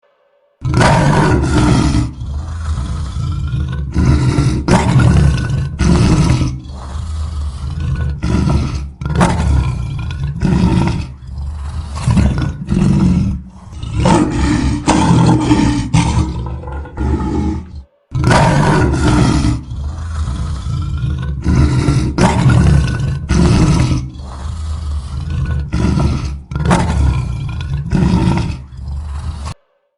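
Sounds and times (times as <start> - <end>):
lion roaring: 0.6 - 29.9.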